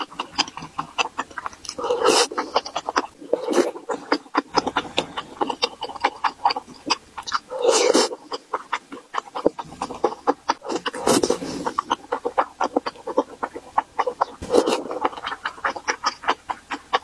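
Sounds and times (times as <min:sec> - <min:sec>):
close chewing with wet mouth clicks: 0:00.0 - 0:17.0.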